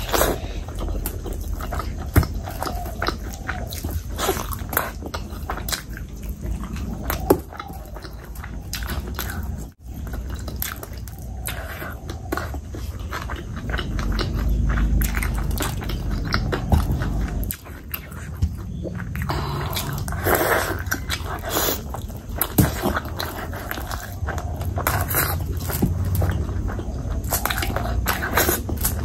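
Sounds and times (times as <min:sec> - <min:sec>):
wet chewing and lip smacks: 0:00.0 - 0:29.0.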